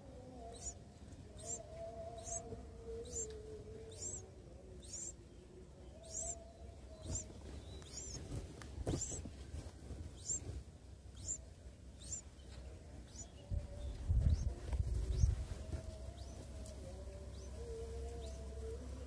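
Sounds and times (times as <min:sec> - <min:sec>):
nestlings peeping: 0:00.0 - 0:19.0.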